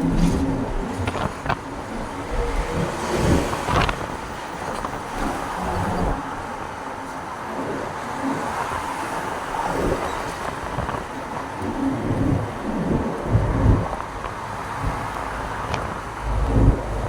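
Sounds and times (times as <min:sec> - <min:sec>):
truck road and engine noise: 0:00.0 - 0:17.0.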